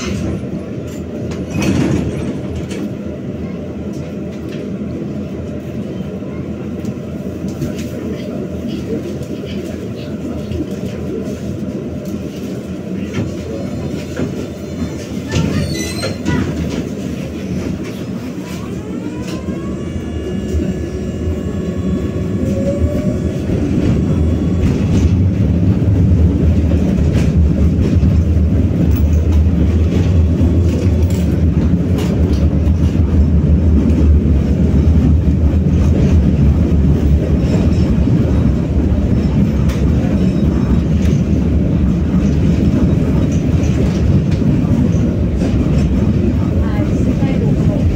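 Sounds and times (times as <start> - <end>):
tram electric drive whine: 0.0 - 47.9.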